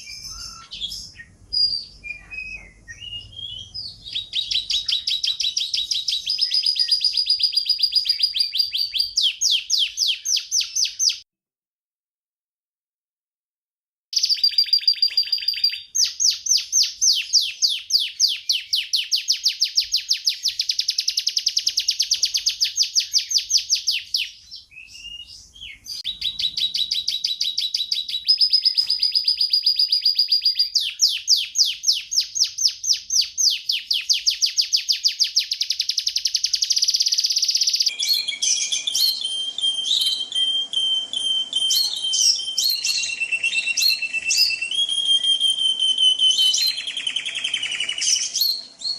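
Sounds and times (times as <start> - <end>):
canary singing trills: 0.0 - 11.2, 14.2 - 48.9.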